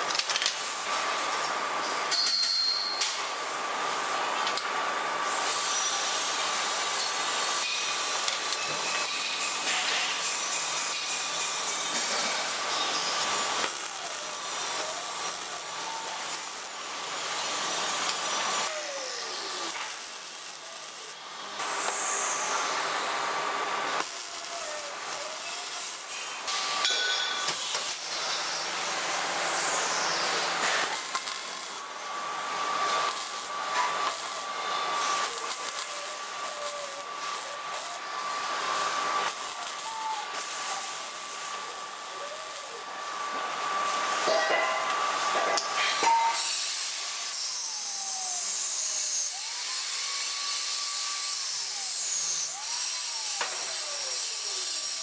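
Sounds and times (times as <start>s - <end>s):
welding arc crackling hiss: 0.0s - 55.0s.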